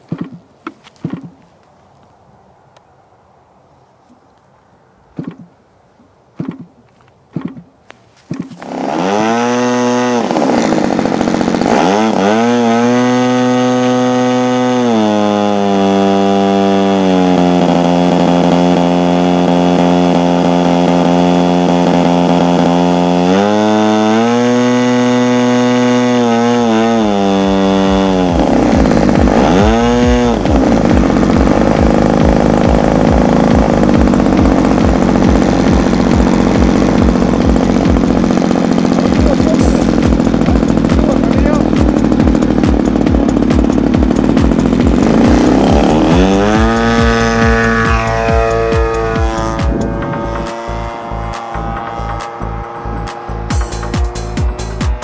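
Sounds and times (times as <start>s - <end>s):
model plane engine revving: 8.4s - 55.0s.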